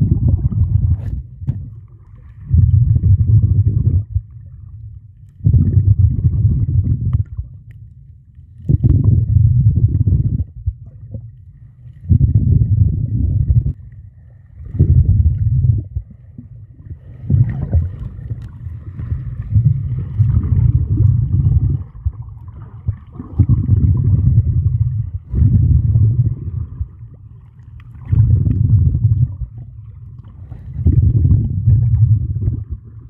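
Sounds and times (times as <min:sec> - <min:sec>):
underwater rumbling surges: 0:00.0 - 0:33.0.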